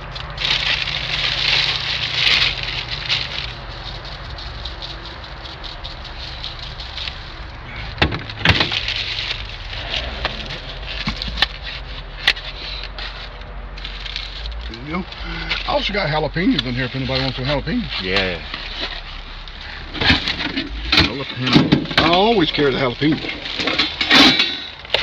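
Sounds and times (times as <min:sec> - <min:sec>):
low steady rumble: 0:00.0 - 0:25.0
plastic bags rustling: 0:00.0 - 0:25.0.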